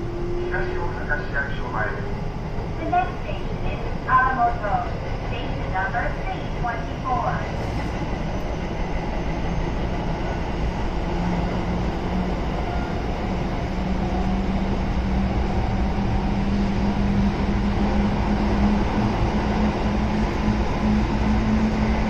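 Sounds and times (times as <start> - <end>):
electric train traction hum: 0.0 - 22.0
train rail running noise: 0.0 - 22.0.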